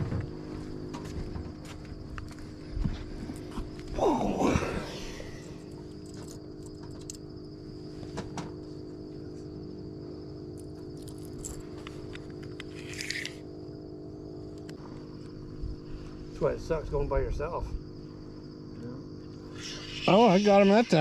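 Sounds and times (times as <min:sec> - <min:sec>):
crickets trilling: 0:00.0 - 0:21.0
machine hum: 0:00.0 - 0:21.0.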